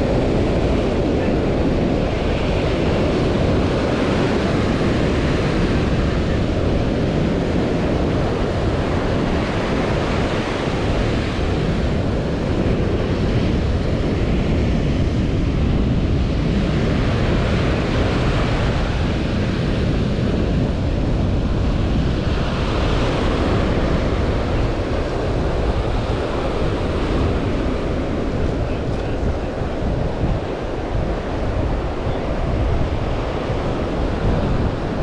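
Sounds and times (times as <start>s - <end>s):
surf washing up beach: 0.0s - 35.0s
wind buffeting microphone: 0.0s - 35.0s.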